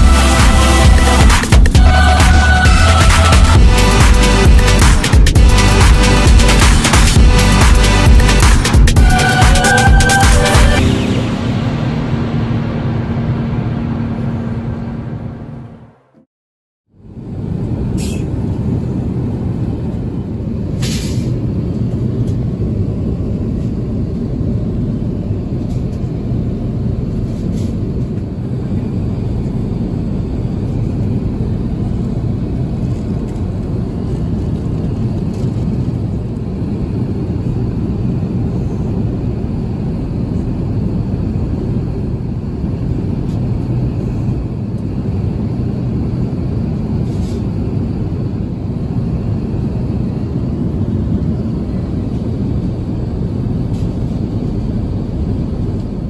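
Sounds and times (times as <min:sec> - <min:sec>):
airplane cabin airflow and engine drone: 0:00.0 - 0:16.0, 0:16.9 - 0:56.0
low hum: 0:09.0 - 0:16.3, 0:16.9 - 0:56.0.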